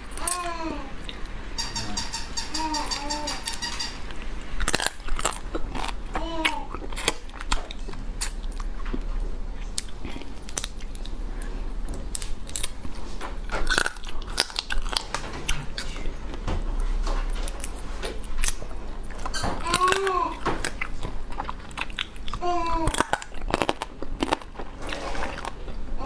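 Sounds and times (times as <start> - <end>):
close-up chewing: 3.6 - 25.9.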